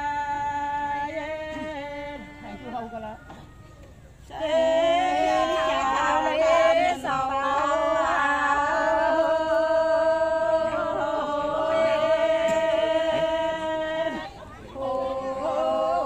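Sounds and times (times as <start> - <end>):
chanted singing: 0.0 - 3.3, 4.2 - 16.0.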